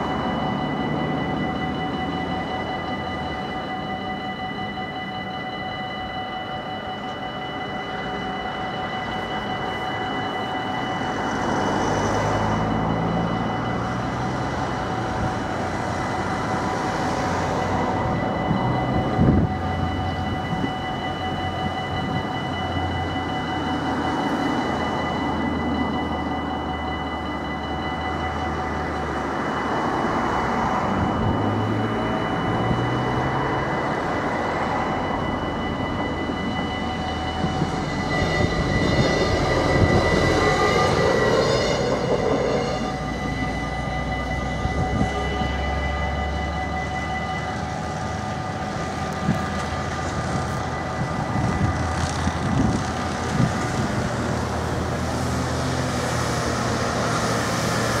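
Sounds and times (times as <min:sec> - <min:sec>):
level-crossing bells ringing: 0:00.0 - 0:58.0
road vehicles moving off: 0:00.0 - 0:58.0
train passing: 0:00.0 - 0:58.0.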